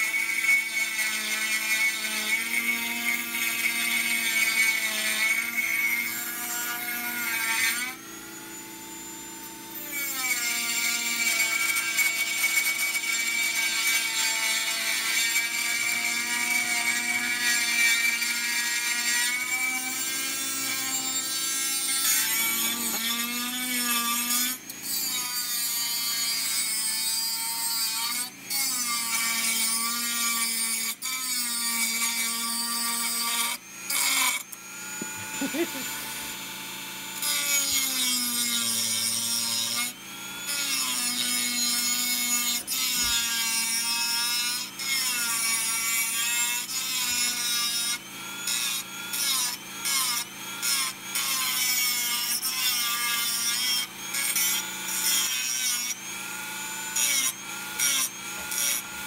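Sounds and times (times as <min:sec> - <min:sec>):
rotary tool grinding metal: 0:00.0 - 0:59.0.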